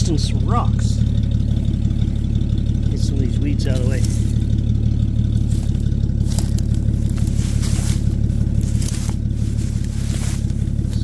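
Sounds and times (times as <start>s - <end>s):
engine idling: 0.0s - 11.0s
rustling of weeds and brush: 1.2s - 11.0s.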